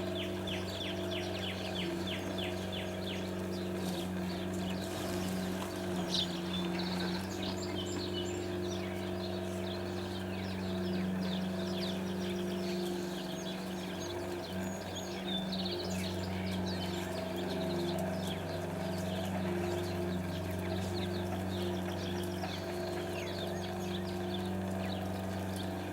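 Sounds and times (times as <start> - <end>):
low machine hum: 0.0 - 25.9
songbirds chirping: 0.0 - 25.9.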